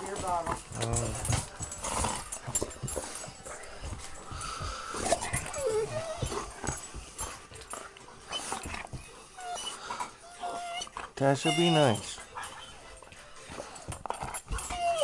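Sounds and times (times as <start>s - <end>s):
dogs scuffling: 0.0s - 15.0s
dog whining: 0.1s - 15.0s.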